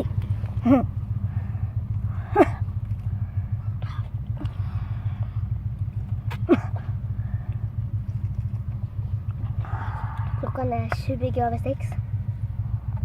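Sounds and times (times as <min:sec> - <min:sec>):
car rumble inside cabin: 0:00.0 - 0:13.0.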